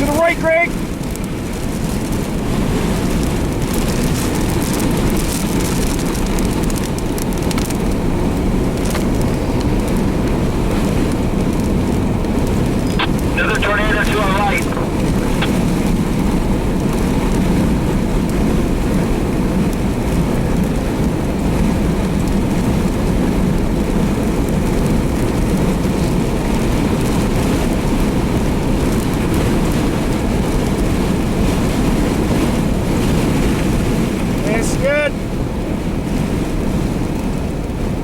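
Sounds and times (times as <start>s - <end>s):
car road and engine noise: 0.0s - 38.0s
wind and rain on car: 0.0s - 38.0s.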